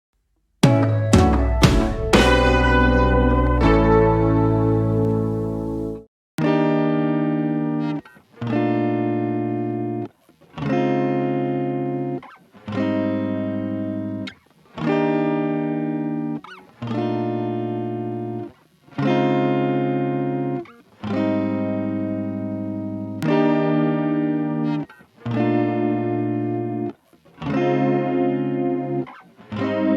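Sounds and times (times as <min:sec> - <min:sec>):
electric guitar chords: 0:00.6 - 0:29.9.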